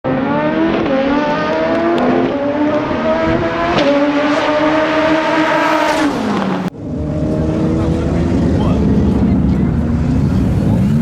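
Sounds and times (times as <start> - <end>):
car engine accelerating through gears: 0.1 - 11.0.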